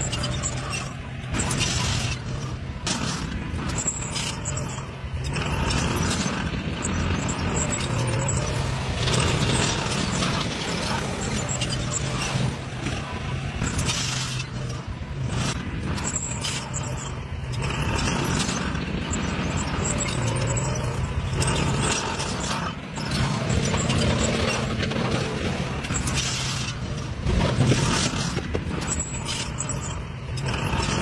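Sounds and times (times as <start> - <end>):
bulldozer diesel engine running: 0.0 - 31.0
steel tracks clanking and creaking: 0.0 - 31.0.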